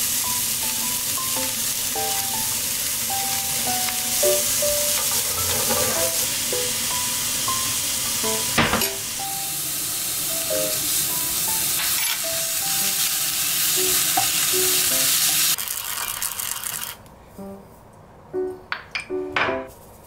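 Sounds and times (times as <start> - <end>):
vegetables sizzling in frying pan: 0.0 - 16.9.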